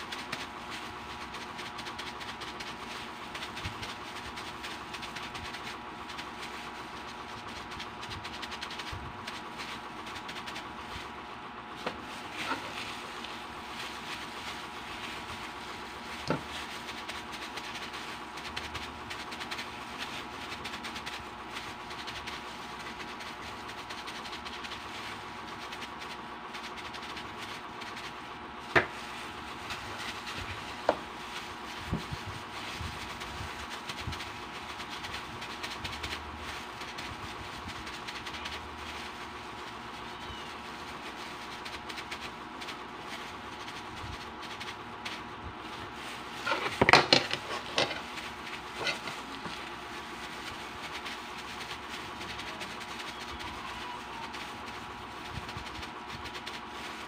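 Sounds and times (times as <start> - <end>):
hand mixing in a bowl: 0.0 - 57.0
steady background hum: 0.0 - 57.0.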